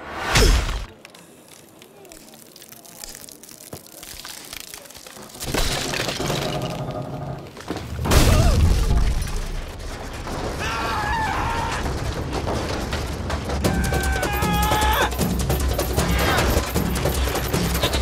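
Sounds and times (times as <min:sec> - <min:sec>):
wood creaking and cracking: 0:00.8 - 0:18.0.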